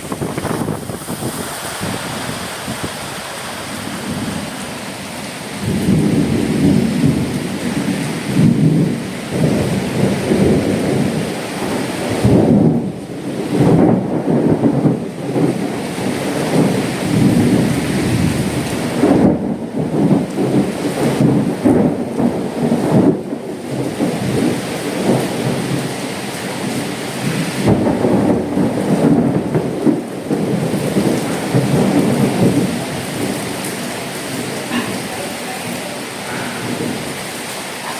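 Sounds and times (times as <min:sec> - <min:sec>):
heavy rain hissing: 0:00.0 - 0:37.9
wind gusts buffeting microphone: 0:00.0 - 0:37.9.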